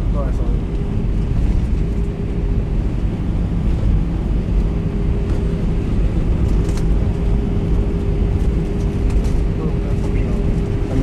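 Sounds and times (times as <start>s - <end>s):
constant hum: 0.0s - 11.0s
engine and wheel rumble: 0.0s - 11.0s.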